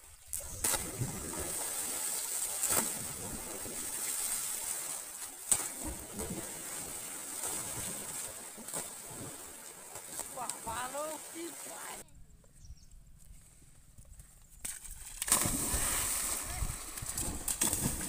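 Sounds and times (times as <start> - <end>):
people splashing into water: 0.4 - 12.0, 14.6 - 18.0
water sloshing: 0.6 - 12.0, 14.7 - 18.0.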